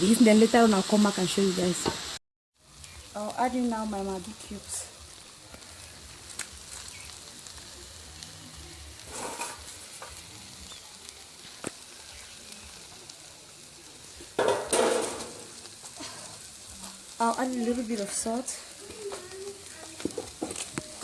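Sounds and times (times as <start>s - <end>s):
rice sizzling in a pot: 0.0s - 21.0s.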